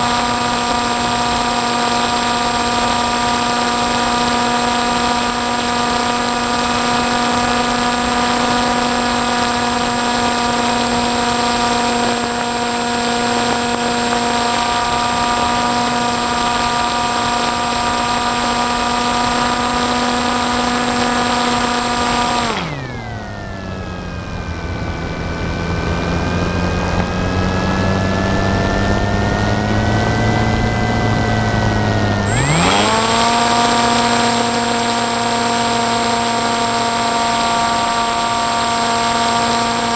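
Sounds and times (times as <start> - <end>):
propeller motor whining: 0.0 - 39.9.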